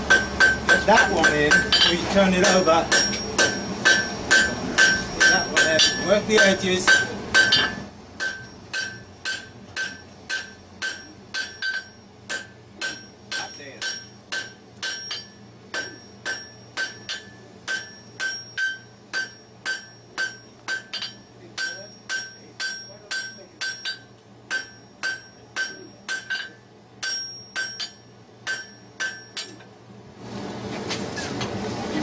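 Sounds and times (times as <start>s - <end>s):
hammer ringing on anvil: 0.0s - 29.7s.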